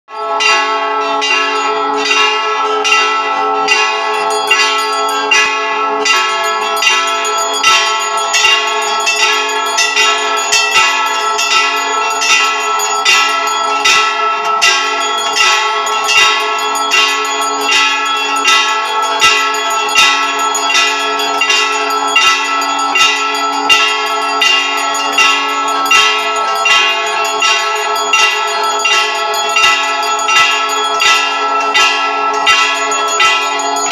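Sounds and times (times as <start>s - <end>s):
temple bells ringing: 0.1s - 33.9s.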